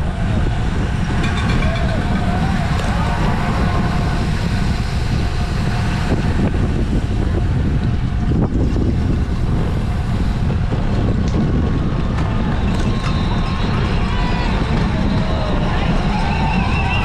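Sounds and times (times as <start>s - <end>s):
rolling road noise: 0.0s - 17.0s
wind buffeting microphone: 0.0s - 17.0s.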